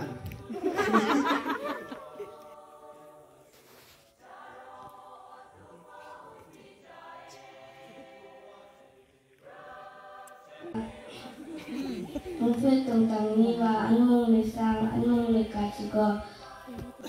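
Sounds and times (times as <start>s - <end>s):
faint singing: 0.0s - 17.0s.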